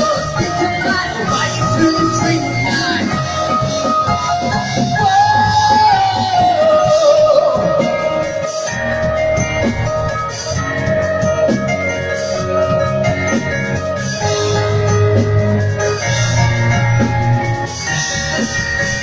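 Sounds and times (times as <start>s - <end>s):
bass: 0.0s - 19.0s
electric guitar lead note: 0.0s - 19.0s
live band instrumental: 0.0s - 19.0s.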